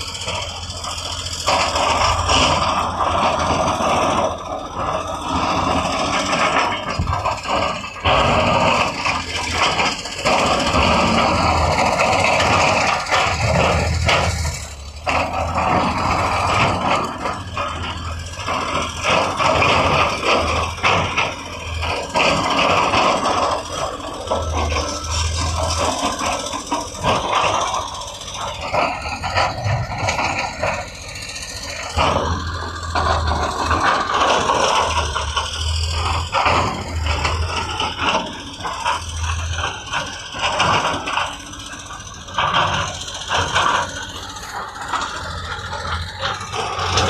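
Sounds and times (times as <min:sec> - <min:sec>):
diesel engine running: 0:00.0 - 0:47.0
machinery clattering and scraping: 0:00.0 - 0:47.0.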